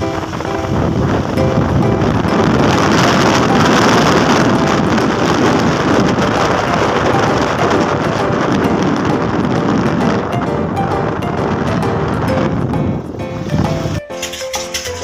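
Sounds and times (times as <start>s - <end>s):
wind rushing on microphone: 0.0s - 14.0s
motorbike engine and road noise: 0.0s - 15.0s.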